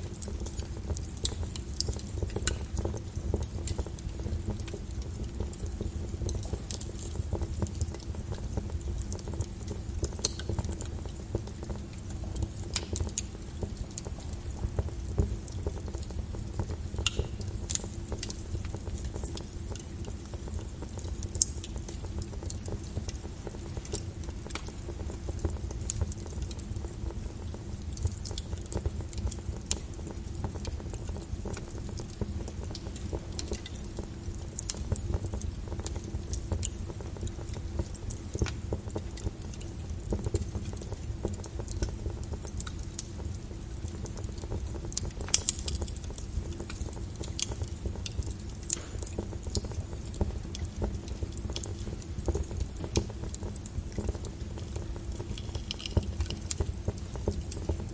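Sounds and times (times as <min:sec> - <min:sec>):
fire crackling: 0:00.0 - 0:57.9
low brown noise: 0:00.0 - 0:57.9.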